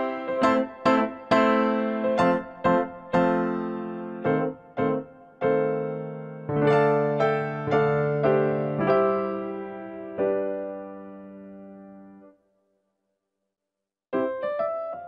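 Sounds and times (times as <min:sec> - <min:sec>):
slow piano melody: 0:00.0 - 0:12.4, 0:14.2 - 0:15.0.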